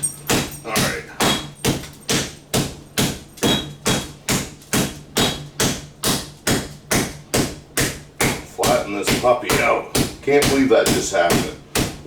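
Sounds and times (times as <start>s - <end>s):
rolling pin pounding meat: 0.0s - 12.0s.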